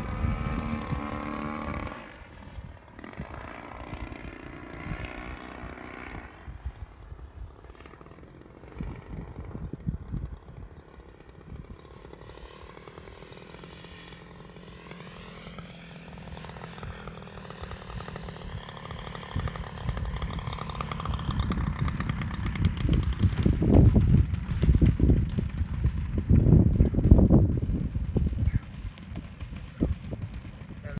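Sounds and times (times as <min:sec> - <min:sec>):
low rumble of plane touching down: 0:00.0 - 0:30.9
model airplane engine droning: 0:00.0 - 0:30.9.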